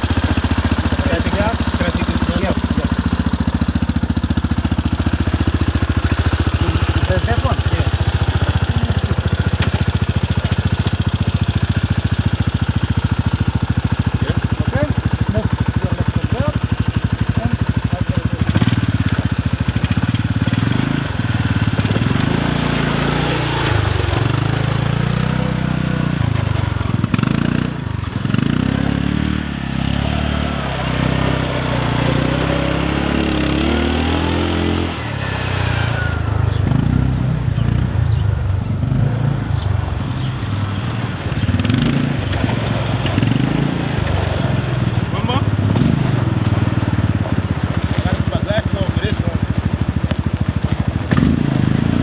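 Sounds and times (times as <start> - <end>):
quad bike engine revving: 0.0 - 52.0.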